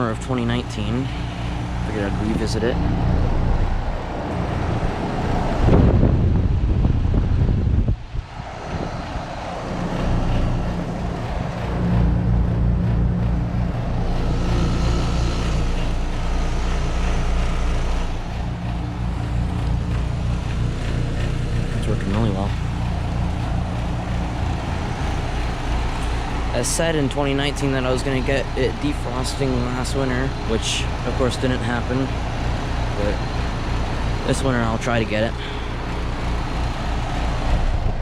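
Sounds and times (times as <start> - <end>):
heat pump compressor hum: 0.0 - 38.0
outdoor fan running: 0.0 - 38.0
rough rumble: 0.0 - 38.0.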